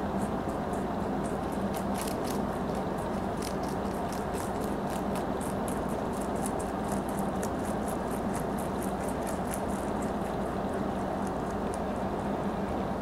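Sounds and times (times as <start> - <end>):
rabbit chewing crunchily: 0.0 - 12.6
low background hum: 0.0 - 13.0.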